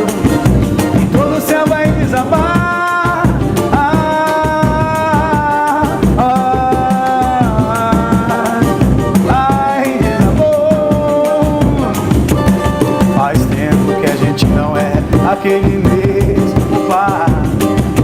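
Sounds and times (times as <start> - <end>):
band playing samba music: 0.0 - 18.0.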